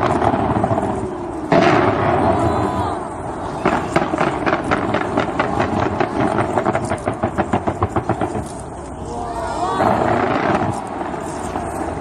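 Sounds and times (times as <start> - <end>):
fireworks popping: 0.0 - 9.1, 9.8 - 12.0.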